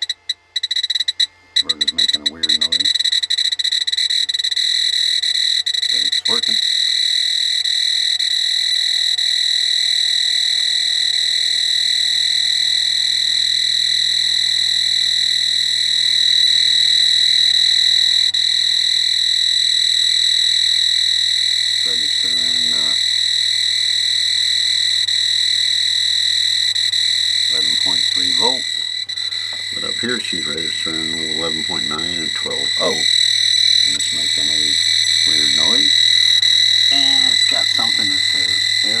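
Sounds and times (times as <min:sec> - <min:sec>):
high-pitched buzzer tone: 0:00.0 - 0:39.0
low electrical hum: 0:00.0 - 0:39.0.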